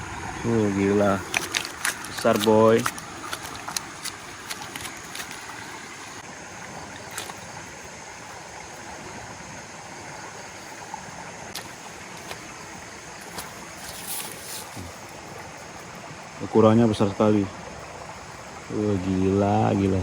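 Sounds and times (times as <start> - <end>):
flowing water: 0.0 - 20.0.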